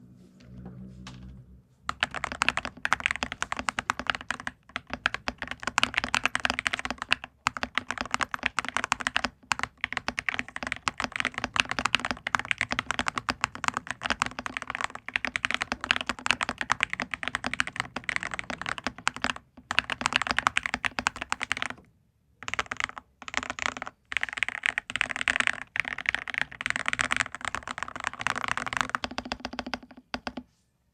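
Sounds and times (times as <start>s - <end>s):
mechanical keyboard typing: 1.9s - 21.8s, 22.4s - 30.5s.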